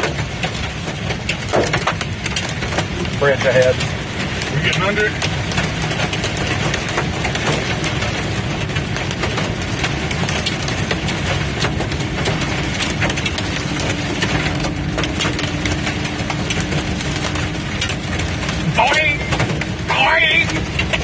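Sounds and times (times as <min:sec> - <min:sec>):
rain and hail on truck roof: 0:00.0 - 0:21.0
truck driving on wet road: 0:00.0 - 0:21.0.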